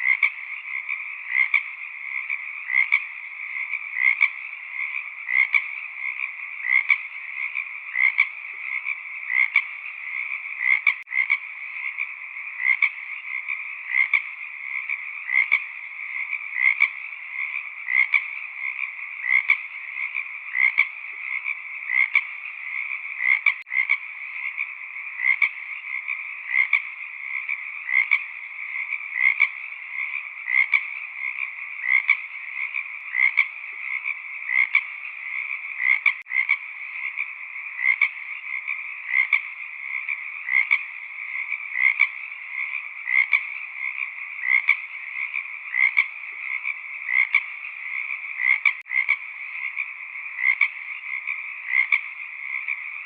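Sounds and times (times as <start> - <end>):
frogs croaking: 0.0 - 53.0.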